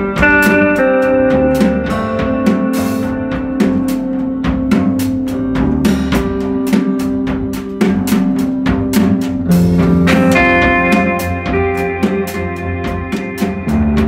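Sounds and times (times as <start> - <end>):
jazz trio playing: 0.0 - 14.0.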